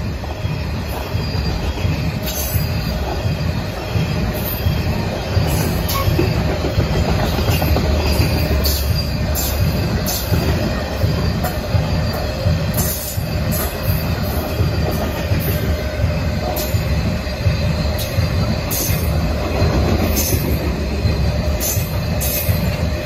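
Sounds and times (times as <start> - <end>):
train wheels rumbling on rail: 0.0 - 23.0
wheels squealing: 0.3 - 23.0.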